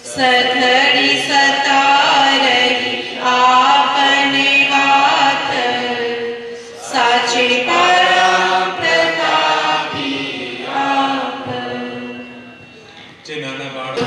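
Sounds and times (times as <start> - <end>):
voices singing a hymn: 0.0 - 13.1.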